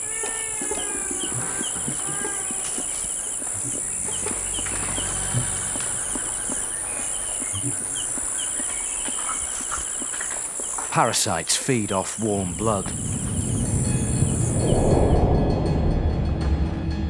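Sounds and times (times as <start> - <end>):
high-pitched insect drone: 0.0 - 10.9, 12.1 - 15.6
pulsed insect chirp: 0.0 - 15.6.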